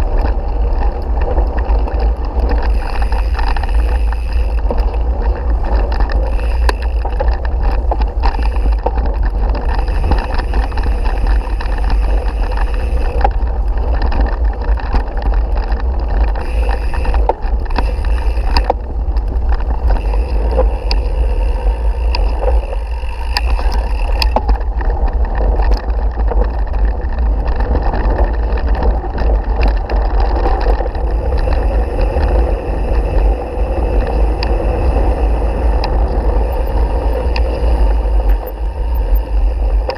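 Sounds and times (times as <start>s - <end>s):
bike rattles and clicks: 0.0s - 39.9s
wind and vibration rumble: 0.0s - 39.9s.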